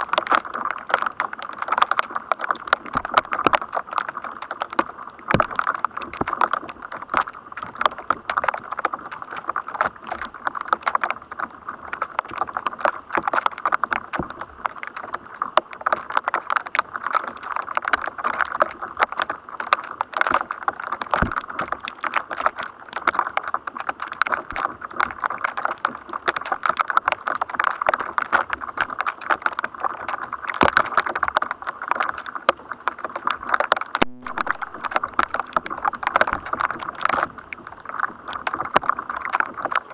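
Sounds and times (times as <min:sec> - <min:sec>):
crackle of clicks and pops: 0:00.0 - 0:39.9.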